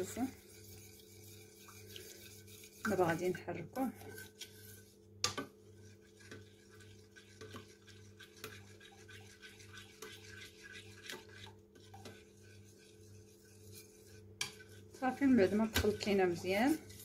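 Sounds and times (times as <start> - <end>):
whisk scraping metal pot: 0.0 - 17.0.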